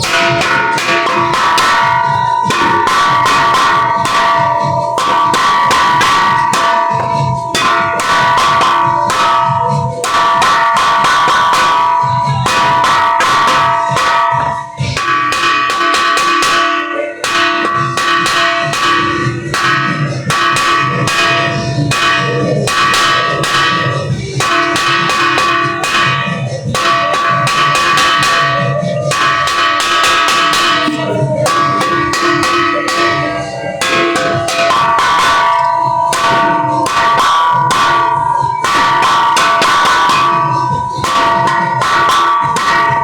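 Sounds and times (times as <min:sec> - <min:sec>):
bells pealing: 0:00.0 - 0:43.0.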